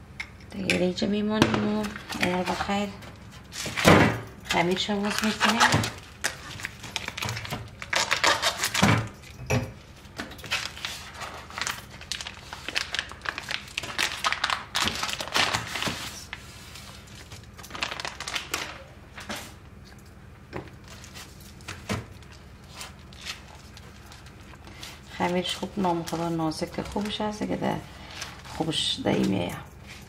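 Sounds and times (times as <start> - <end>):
plastic wrapping crinkling: 4.4 - 9.2, 10.0 - 20.1, 20.7 - 30.0.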